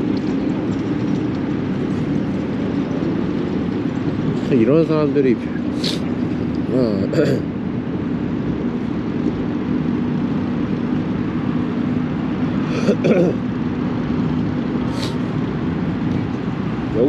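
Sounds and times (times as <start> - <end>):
car engines and traffic hum: 0.0 - 17.0.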